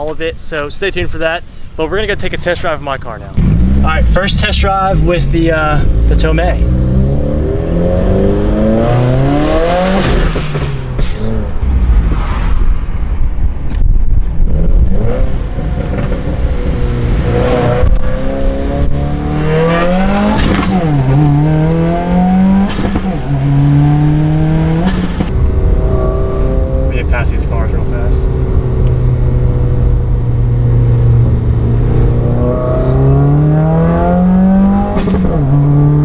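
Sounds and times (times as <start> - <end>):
car engine accelerating: 3.3 - 13.1, 14.4 - 36.0.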